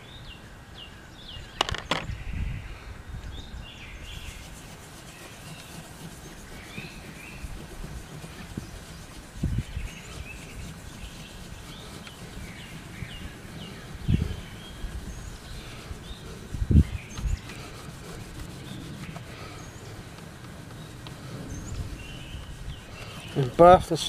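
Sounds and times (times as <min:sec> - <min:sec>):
birds chirping: 0:00.0 - 0:24.0
cloth rubbing on guitar wood: 0:04.0 - 0:24.0.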